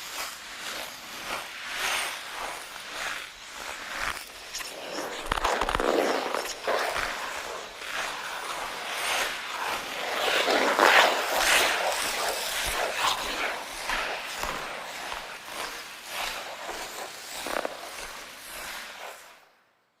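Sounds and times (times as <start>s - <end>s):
ice skates scraping ice: 0.0s - 19.6s.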